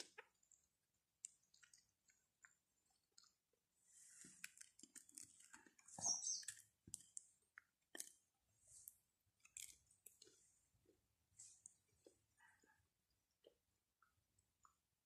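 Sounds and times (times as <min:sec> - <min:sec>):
crackle: 0:00.0 - 0:12.2
chewing: 0:00.0 - 0:14.8.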